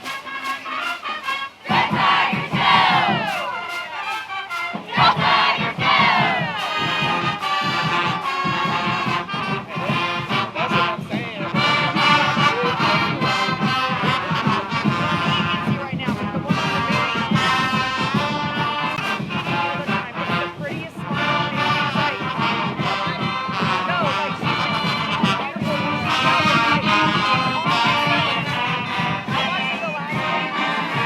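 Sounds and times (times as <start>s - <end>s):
brass section playing a tune: 0.0s - 31.0s
crowd noise: 0.0s - 31.0s
steady drum beat: 0.0s - 31.0s.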